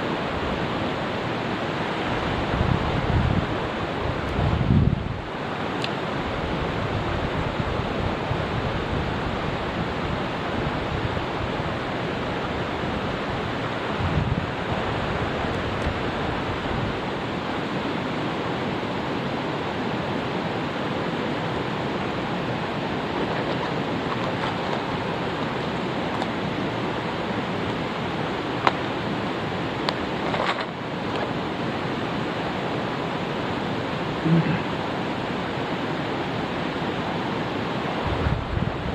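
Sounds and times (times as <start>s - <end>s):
mountain stream rushing: 0.0s - 38.9s.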